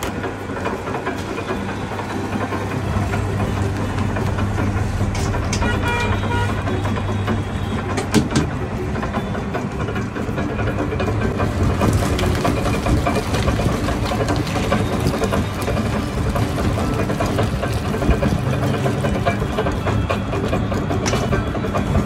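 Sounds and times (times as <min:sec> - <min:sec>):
juice crusher rattling: 0:00.0 - 0:22.0.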